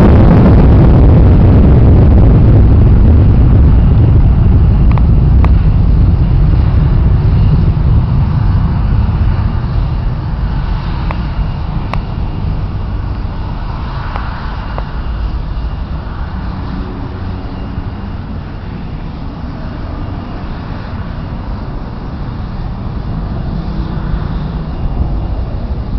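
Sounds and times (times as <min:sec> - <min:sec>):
jet engines rumbling at takeoff: 0:00.0 - 0:25.9.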